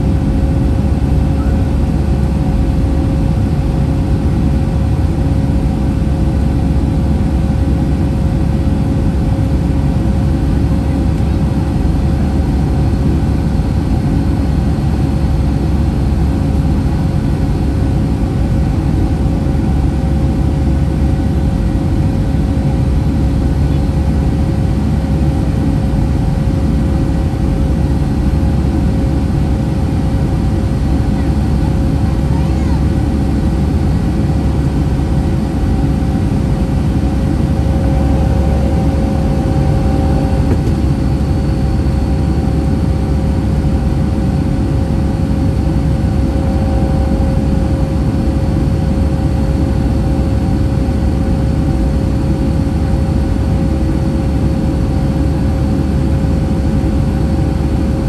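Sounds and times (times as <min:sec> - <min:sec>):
airliner cabin engine drone: 0:00.0 - 0:58.0
constant mid-pitched hum: 0:00.0 - 0:58.0.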